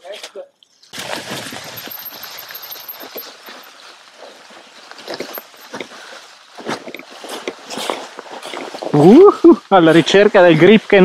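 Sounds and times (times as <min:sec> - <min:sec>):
tyres crunching through dry leaves: 0:00.8 - 0:11.0.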